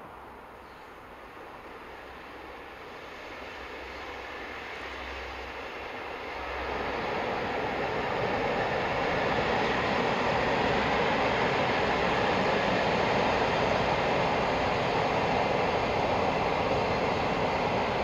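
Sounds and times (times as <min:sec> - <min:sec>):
train rumbling over bridge: 0:00.0 - 0:18.0.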